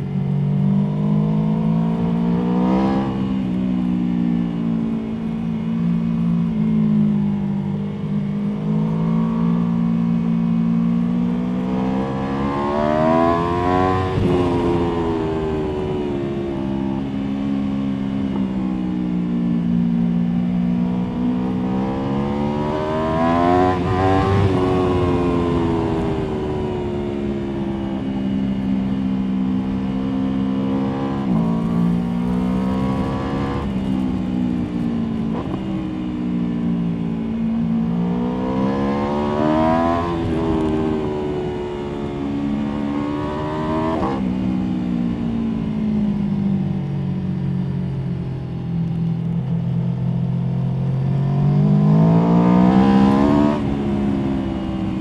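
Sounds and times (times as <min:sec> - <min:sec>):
motorcycle engine revving: 0:00.0 - 0:19.8, 0:20.4 - 0:47.0, 0:49.3 - 0:55.0.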